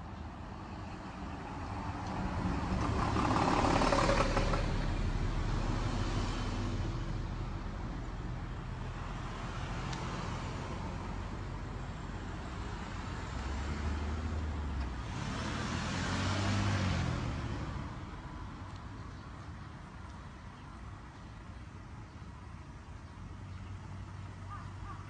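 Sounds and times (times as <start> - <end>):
bus driving past: 0.0 - 25.0
cars passing: 0.0 - 25.0.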